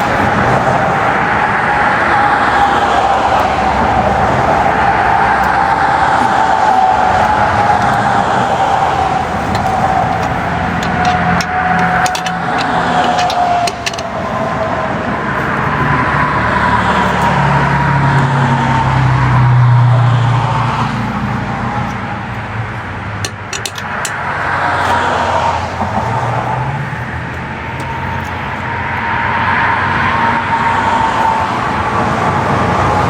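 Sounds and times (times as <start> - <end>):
cars passing by: 0.0 - 33.0.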